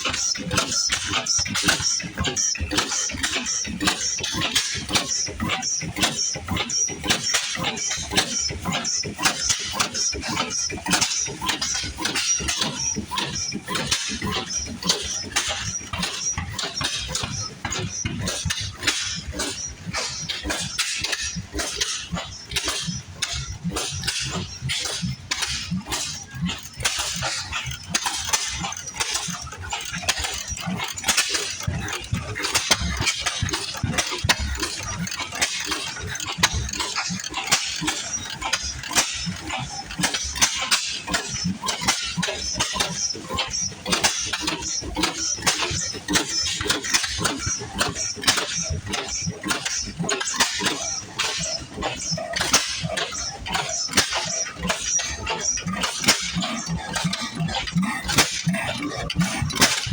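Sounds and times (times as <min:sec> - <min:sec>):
old engines clattering: 0:00.0 - 0:59.9.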